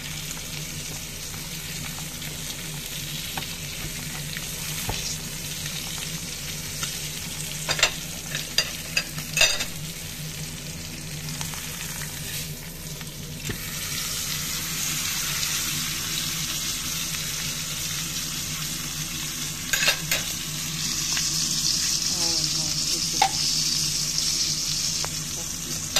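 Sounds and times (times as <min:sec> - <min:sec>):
steak sizzling in a skillet: 0:00.0 - 0:25.9.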